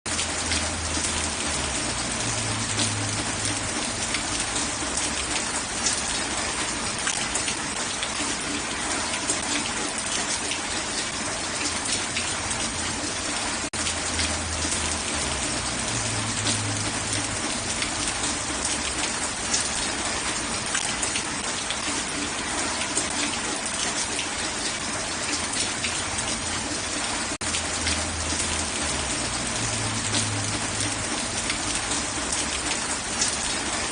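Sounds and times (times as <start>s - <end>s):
heavy rain pattering: 0.1s - 33.9s.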